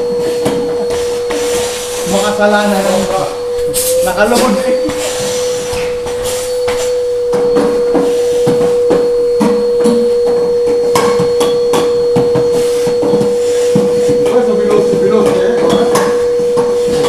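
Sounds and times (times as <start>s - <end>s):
vacuum cleaner whine: 0.0s - 17.0s.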